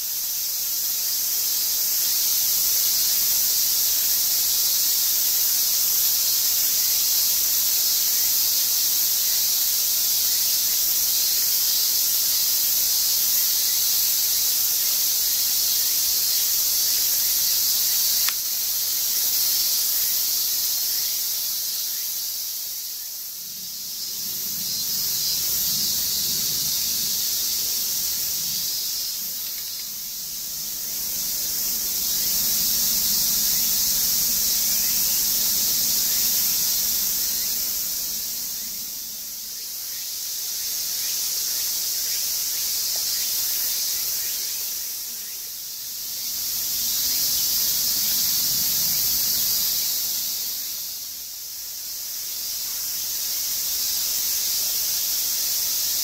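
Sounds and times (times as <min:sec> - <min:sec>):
insects shrilling: 0:00.0 - 0:56.0.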